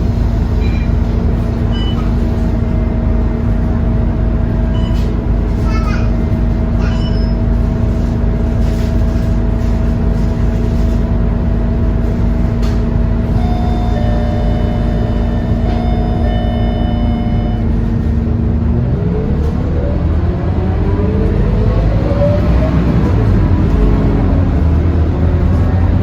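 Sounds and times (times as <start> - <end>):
bus diesel engine idling: 0.0 - 26.0.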